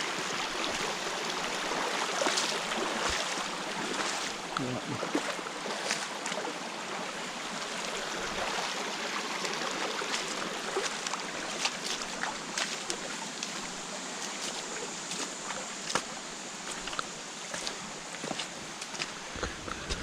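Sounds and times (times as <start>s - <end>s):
creek water running over rocks: 0.0s - 20.0s.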